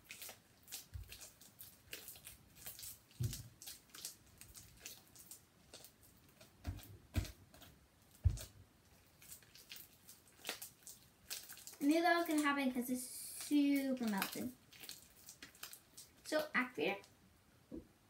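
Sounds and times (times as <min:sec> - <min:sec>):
slime squishing with wet pops: 0:00.0 - 0:17.1.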